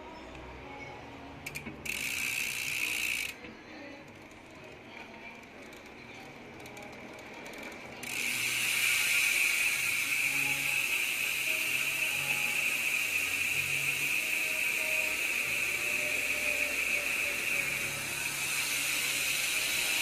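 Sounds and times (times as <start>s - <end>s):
bike hub ratcheting buzz: 1.4s - 3.4s, 5.4s - 20.0s.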